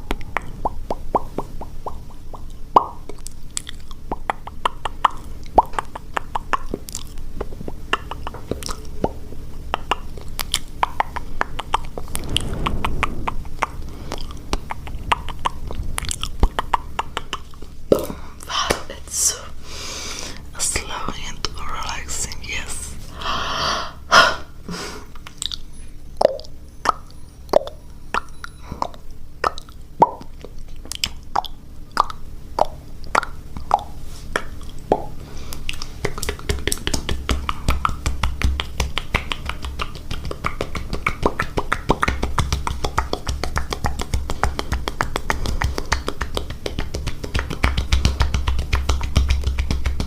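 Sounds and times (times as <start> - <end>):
fast wet mouth clicking: 0.0 - 19.5, 25.1 - 25.6, 26.2 - 50.0
wet mouth pops: 0.1 - 19.0, 27.6 - 50.0.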